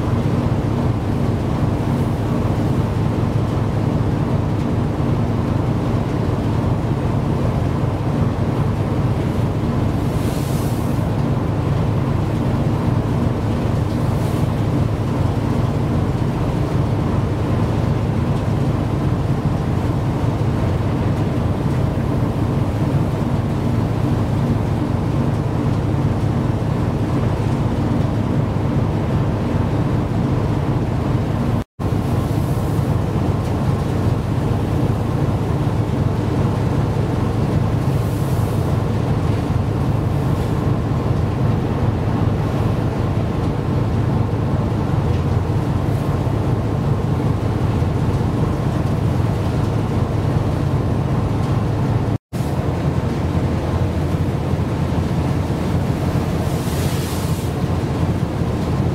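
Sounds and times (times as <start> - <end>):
choppy sea: 0.0 - 58.9.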